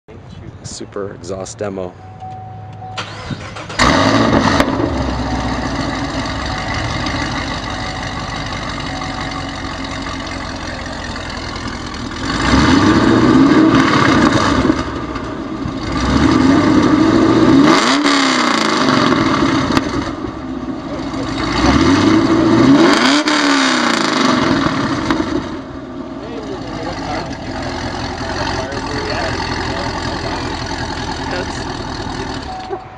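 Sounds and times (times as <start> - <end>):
car engine starting and idling: 1.9 - 32.9
car engine revving: 3.0 - 32.8.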